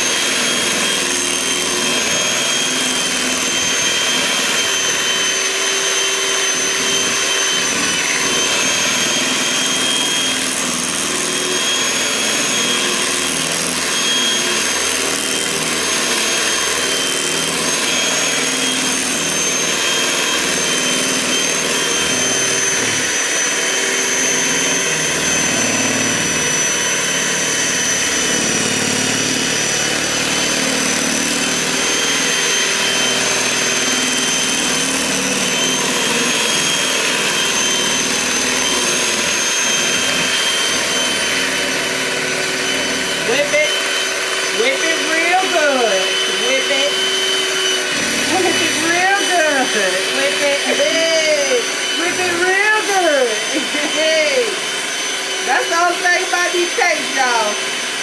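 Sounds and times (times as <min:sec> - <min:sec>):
electric mixer motor whine: 0:00.0 - 0:58.0.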